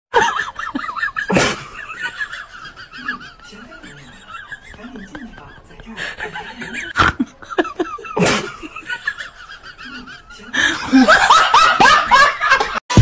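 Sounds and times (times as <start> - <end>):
person laughing: 0.2 - 13.0.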